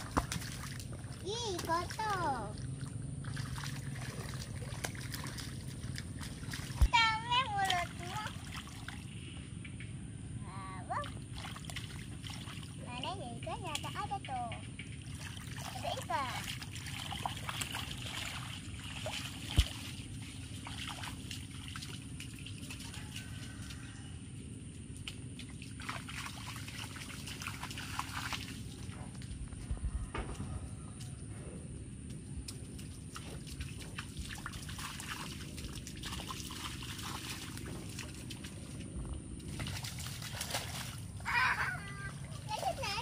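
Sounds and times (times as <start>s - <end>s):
puddle water sloshing: 0.0s - 9.4s, 10.9s - 31.2s, 32.0s - 43.0s.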